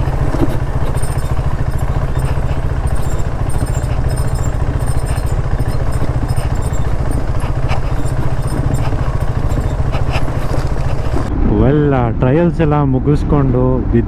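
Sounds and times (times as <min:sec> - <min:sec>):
motorcycle engine running: 0:00.0 - 0:11.3
motorcycle knocks and rattles: 0:00.0 - 0:11.3.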